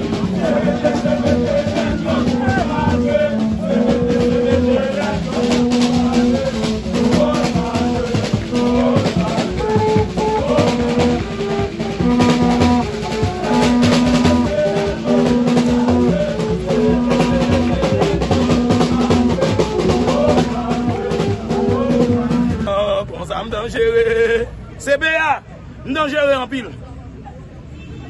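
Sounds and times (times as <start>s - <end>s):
music with drum beat: 0.0s - 22.9s.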